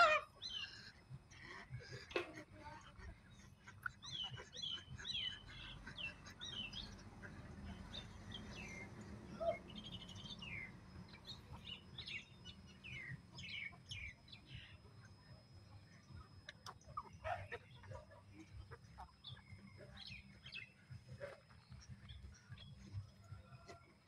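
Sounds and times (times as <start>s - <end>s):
small birds chirping: 0.0s - 2.2s, 2.8s - 23.8s.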